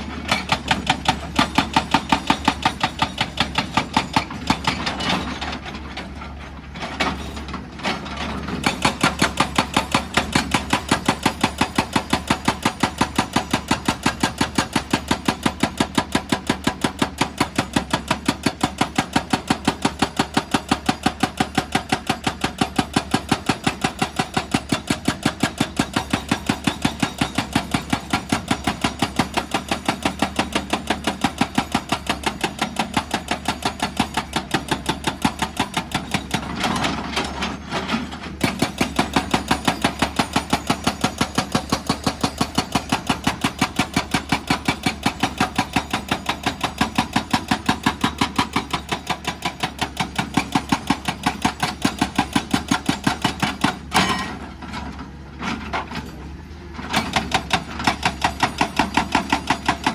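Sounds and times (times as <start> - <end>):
excavator engine hum: 0.0 - 59.9
hydraulic rock drill hammering: 0.0 - 59.9.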